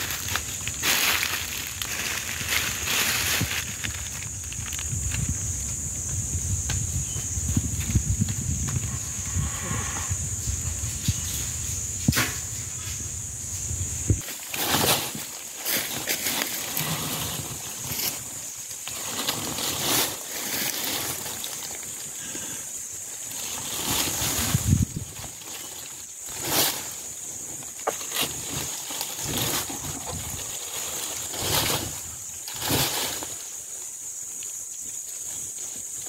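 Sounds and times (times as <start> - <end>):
rustling in dry leaves: 0.0 - 36.0.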